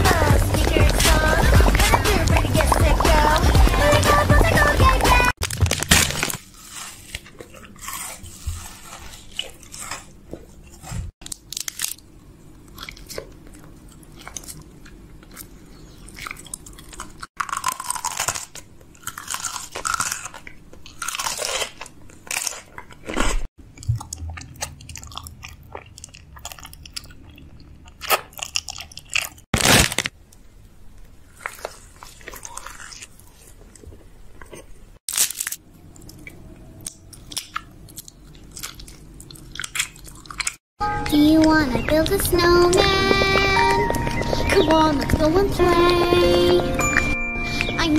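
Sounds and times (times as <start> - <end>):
crunchy chewing of snacks: 0.0 - 47.9.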